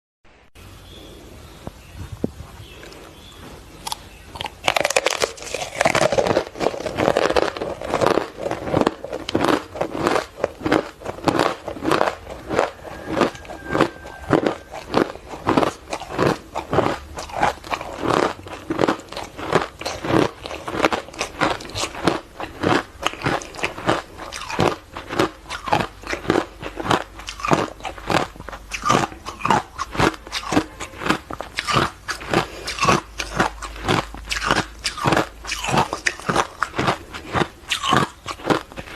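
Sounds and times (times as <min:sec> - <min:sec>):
ice crunching being chewed: 0:02.6 - 0:38.9.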